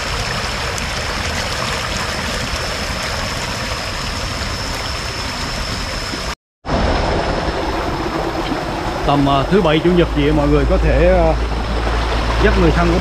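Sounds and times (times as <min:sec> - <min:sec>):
water splashing over rocks: 0:00.0 - 0:13.0.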